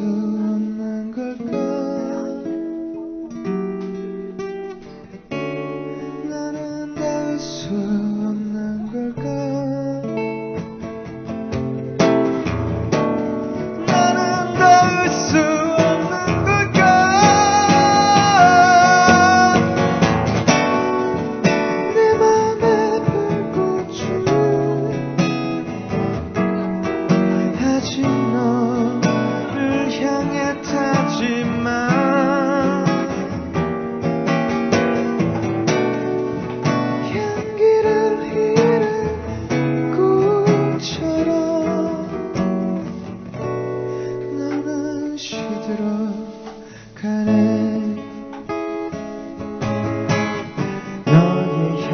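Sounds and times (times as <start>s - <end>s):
acoustic guitars strumming chords: 0.0s - 51.9s.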